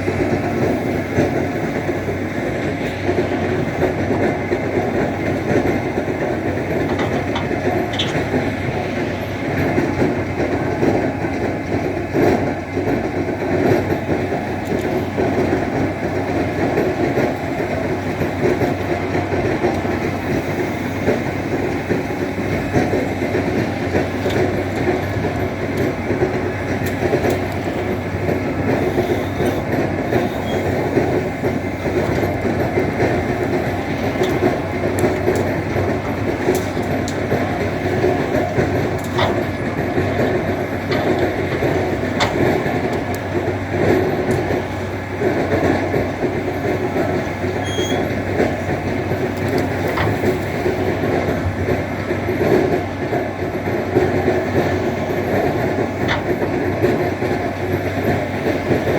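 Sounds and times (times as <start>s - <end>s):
tractor engine rumbling: 0.0s - 58.9s.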